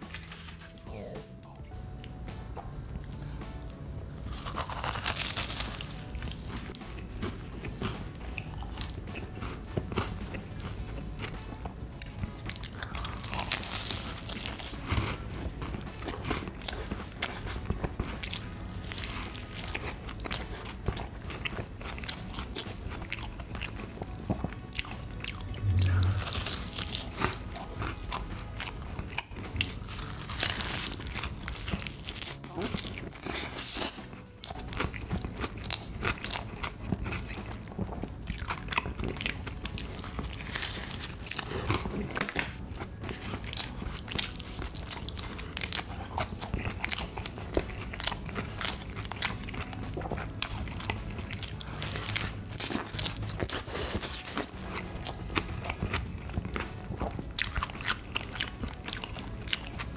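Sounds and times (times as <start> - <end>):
person chewing crunchy food: 2.9 - 59.9.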